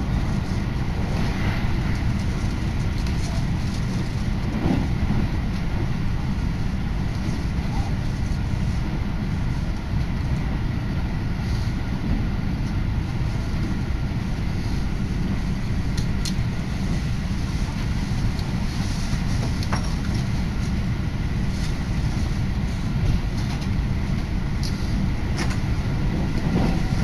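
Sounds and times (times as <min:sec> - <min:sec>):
train wheels and motors rumbling: 0:00.0 - 0:27.0.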